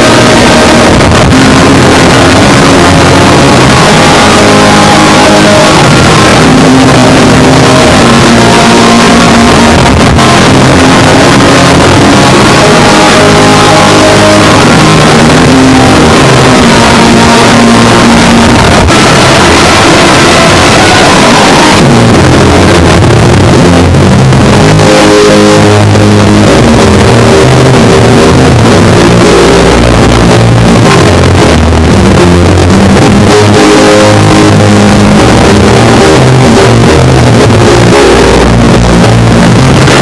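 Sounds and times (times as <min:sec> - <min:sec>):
held drone tones: 0:00.0 - 0:40.0
loud wall of static: 0:00.0 - 0:40.0.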